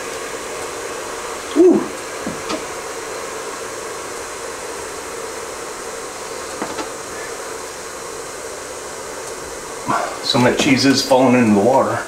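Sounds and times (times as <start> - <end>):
appliance fan whirring: 0.0 - 12.0.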